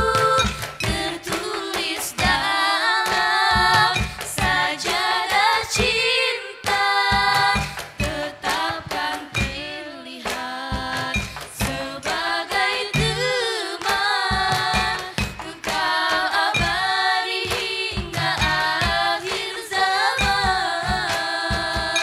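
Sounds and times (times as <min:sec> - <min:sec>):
low thumping beat: 0:00.0 - 0:09.9, 0:10.8 - 0:22.0
girls singing in harmony: 0:00.0 - 0:22.0.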